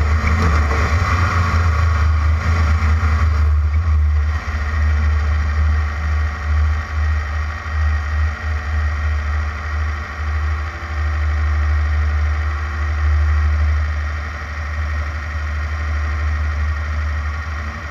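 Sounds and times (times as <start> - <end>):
race car engine rumbling: 0.0 - 17.9.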